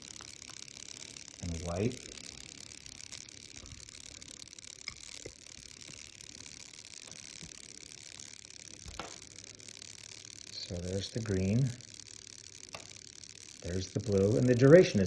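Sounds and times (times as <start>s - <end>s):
faint clicks: 0.0s - 15.0s
steady background buzzing: 0.0s - 15.0s.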